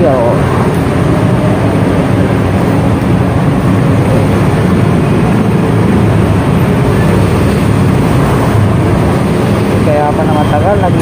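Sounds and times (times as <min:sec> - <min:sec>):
road noise: 0:00.0 - 0:11.0
vehicle engine rumbling: 0:00.0 - 0:11.0.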